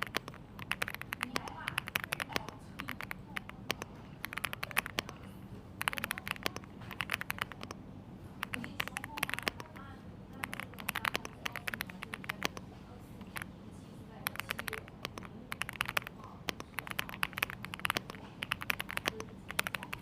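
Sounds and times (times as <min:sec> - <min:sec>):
mechanical keyboard typing: 0:00.0 - 0:07.8, 0:08.4 - 0:13.5, 0:14.2 - 0:20.0.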